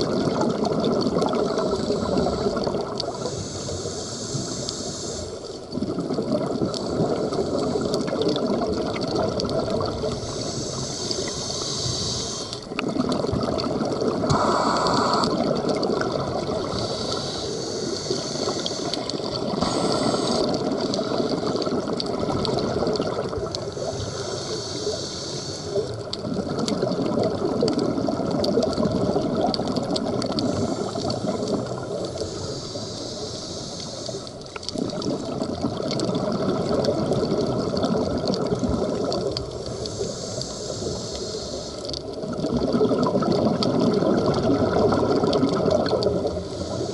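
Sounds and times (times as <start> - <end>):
underwater regulator bubbles: 0.0 - 46.9.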